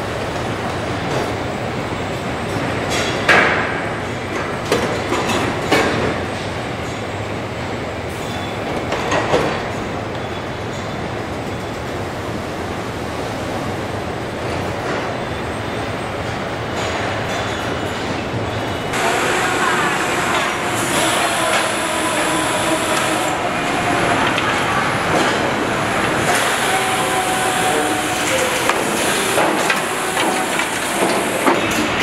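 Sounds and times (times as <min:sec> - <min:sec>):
conveyor machinery rumbling: 0:00.0 - 0:32.0.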